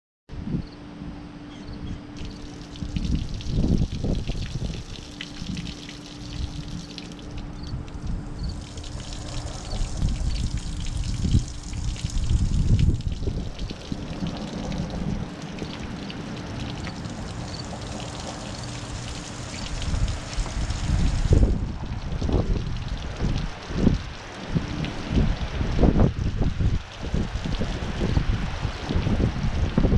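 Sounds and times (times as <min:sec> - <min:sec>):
steady hum: 0:00.3 - 0:29.5
wind gusts on microphone: 0:02.2 - 0:07.0, 0:07.6 - 0:15.9, 0:16.8 - 0:29.9
water from hose splashing on concrete: 0:02.2 - 0:29.9.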